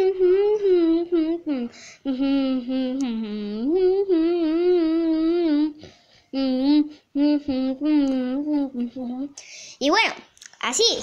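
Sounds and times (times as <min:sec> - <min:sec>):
child humming: 0:00.0 - 0:09.5.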